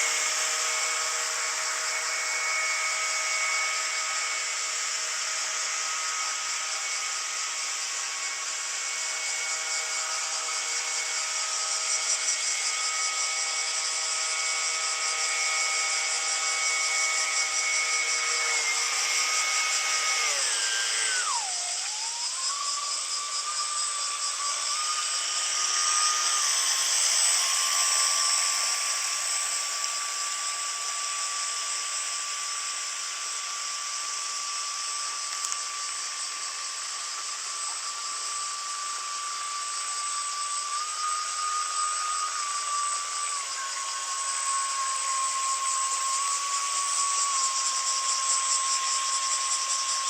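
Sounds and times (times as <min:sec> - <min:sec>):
model motor whining: 0:00.0 - 0:50.0.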